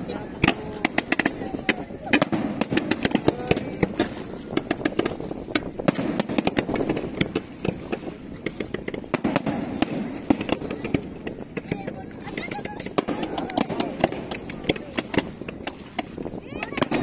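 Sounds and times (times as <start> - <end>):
fireworks bangs and crackles: 0.0 - 17.0
rumble of fireworks reports: 0.0 - 17.0.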